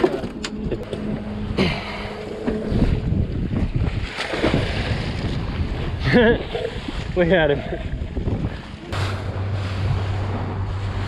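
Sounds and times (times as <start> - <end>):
steady low hum: 0.0 - 6.4, 7.6 - 11.0
water and boat noise: 0.0 - 11.0
wind buffeting microphone: 0.5 - 11.0.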